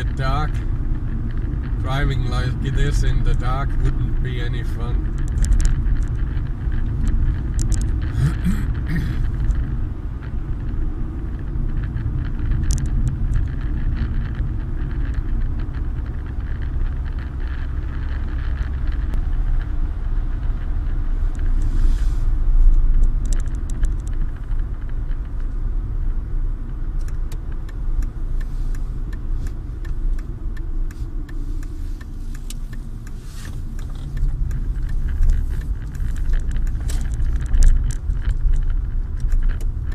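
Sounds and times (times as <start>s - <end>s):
light clicks and rattles: 0.0s - 21.7s, 22.4s - 39.9s
vehicle driving on snowy road: 0.0s - 39.9s.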